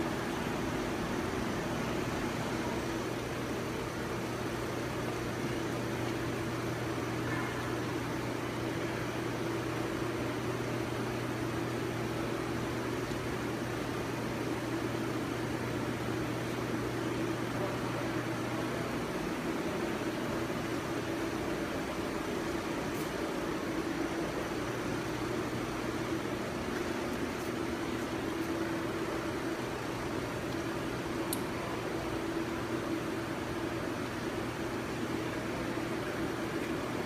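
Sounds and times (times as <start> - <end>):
fan humming with hiss: 0.0 - 37.0.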